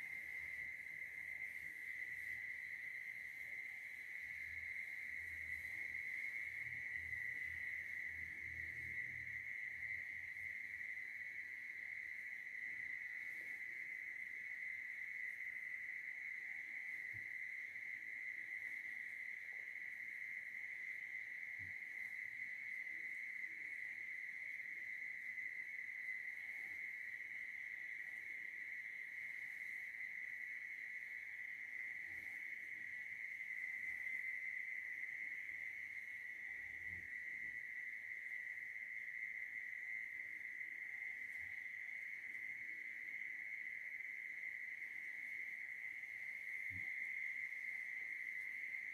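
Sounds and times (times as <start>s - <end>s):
night insect chorus: 0.0s - 48.9s.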